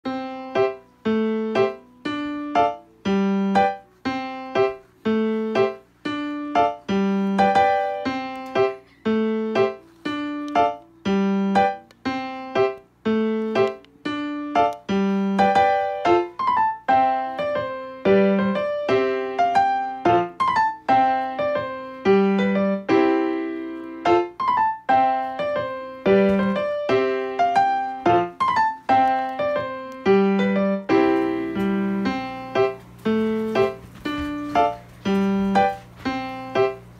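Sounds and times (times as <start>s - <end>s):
keyboard melody: 0.0s - 36.9s.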